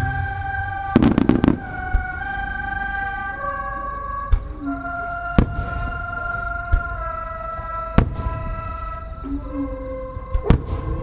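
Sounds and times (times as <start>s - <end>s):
music with long held notes: 0.0s - 11.0s.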